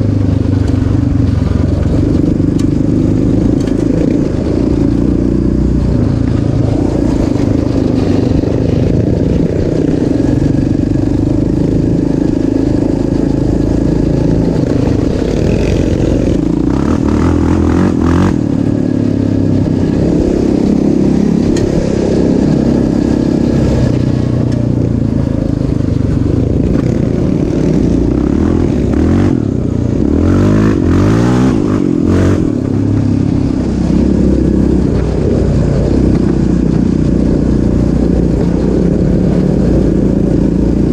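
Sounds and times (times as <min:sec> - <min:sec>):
off-road vehicle engine revving: 0:01.4 - 0:40.9.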